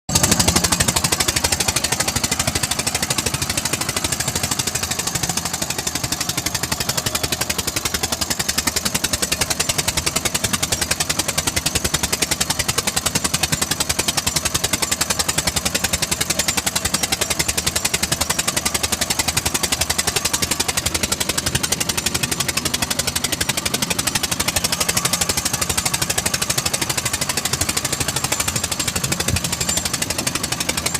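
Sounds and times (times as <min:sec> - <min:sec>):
tractor diesel engine knocking: 0:00.1 - 0:30.9.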